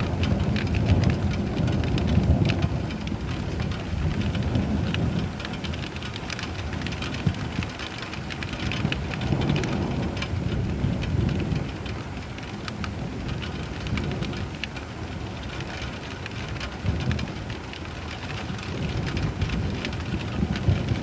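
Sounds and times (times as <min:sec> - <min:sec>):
rolling thunder: 0:00.0 - 0:07.7, 0:08.3 - 0:15.5, 0:18.5 - 0:21.0
rain drops tapping: 0:00.0 - 0:21.0.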